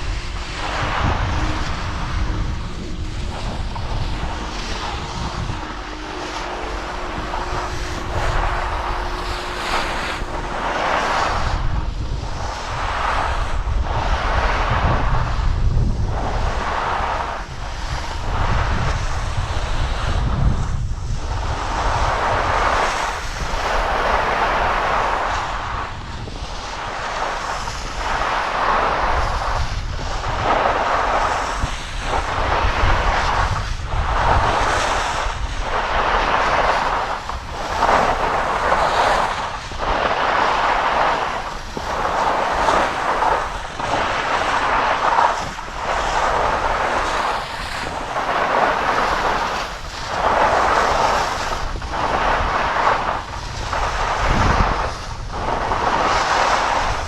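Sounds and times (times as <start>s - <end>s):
skis scraping on snow: 0.0s - 15.4s, 16.1s - 17.3s, 21.6s - 57.0s
wind on microphone: 0.0s - 57.0s.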